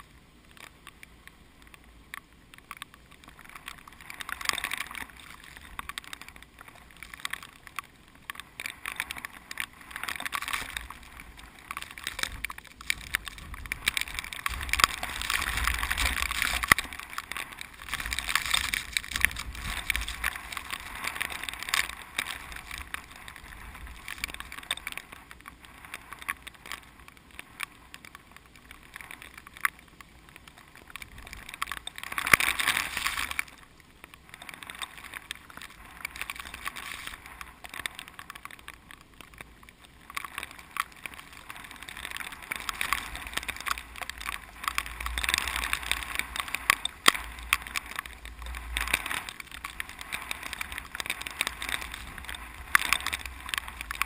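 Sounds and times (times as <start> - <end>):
wind rustling through rice plants: 0.0 - 54.0
wind rumble on microphone: 8.2 - 29.4, 30.2 - 54.0.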